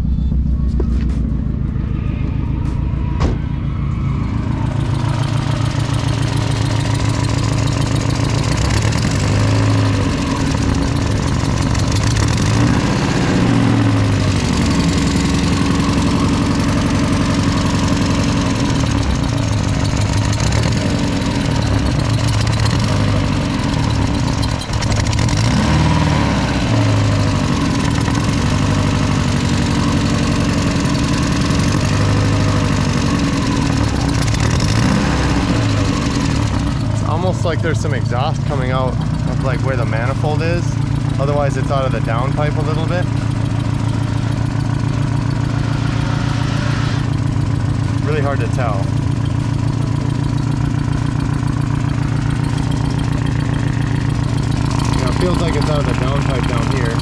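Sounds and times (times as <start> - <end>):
car engine idling roughly: 0.0 - 57.0.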